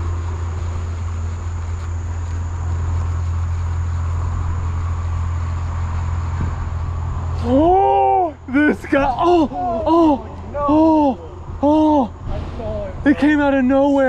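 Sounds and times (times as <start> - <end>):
high-pitched insect drone: 0.0 - 14.0
steady low rumble: 0.0 - 14.0.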